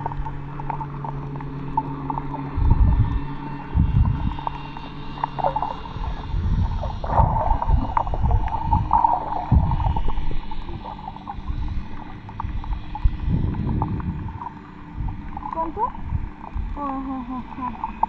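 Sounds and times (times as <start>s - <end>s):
faint steady hum: 0.0s - 18.0s
muffled underwater water surges: 0.0s - 18.0s
small clicks and crackles: 0.0s - 18.0s.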